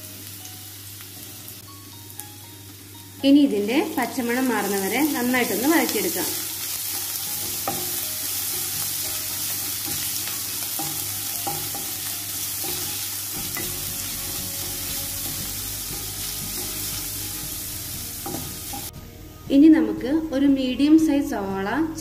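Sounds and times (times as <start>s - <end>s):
food sizzling in hot oil: 0.0s - 18.9s.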